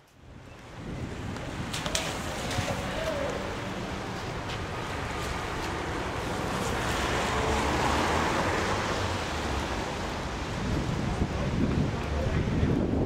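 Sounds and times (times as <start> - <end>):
tyres on wet road: 0.6 - 13.0.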